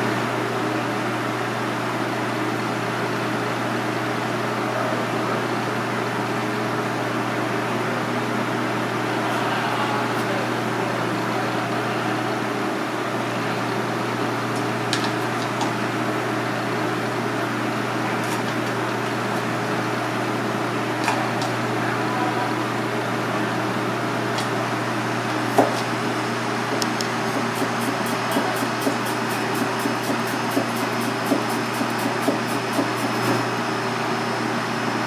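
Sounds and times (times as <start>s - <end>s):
ventilation machinery humming: 0.0s - 35.0s.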